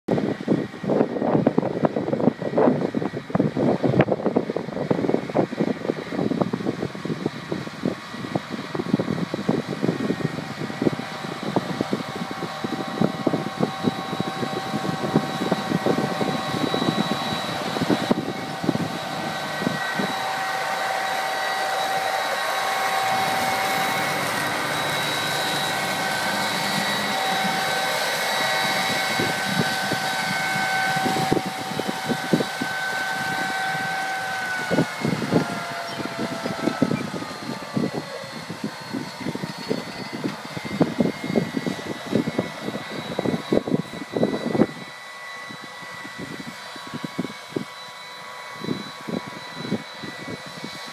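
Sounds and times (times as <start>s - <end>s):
high steady whine: 0.1s - 50.9s
tractor engine and machinery: 0.1s - 50.9s
wind buffeting microphone: 0.1s - 50.9s.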